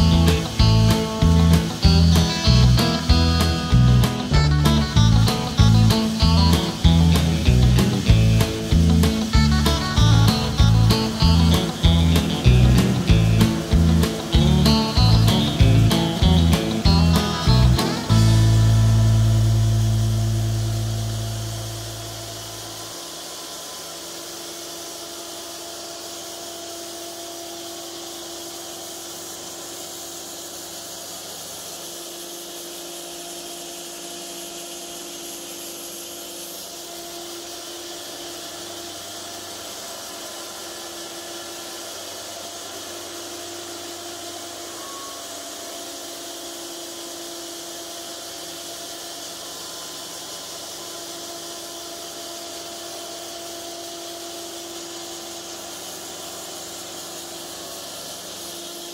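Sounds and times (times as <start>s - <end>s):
bandsaw mill humming: 0.0s - 58.9s
hiss of sawing: 0.0s - 58.9s.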